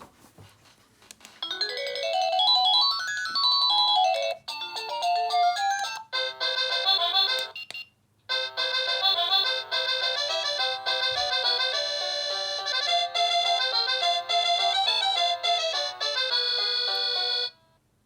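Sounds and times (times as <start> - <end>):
doorbell electronic chime tunes: 1.4 - 17.6.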